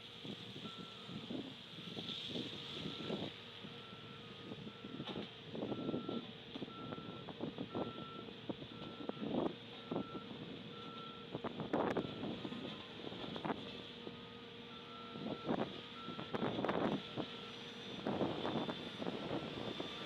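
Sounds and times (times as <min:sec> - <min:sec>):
reversing alarm beeping: 0:00.6 - 0:13.4, 0:14.1 - 0:20.0.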